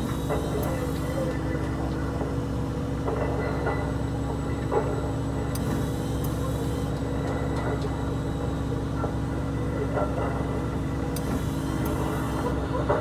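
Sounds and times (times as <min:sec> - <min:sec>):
crane engine and winch droning: 0:00.0 - 0:13.0.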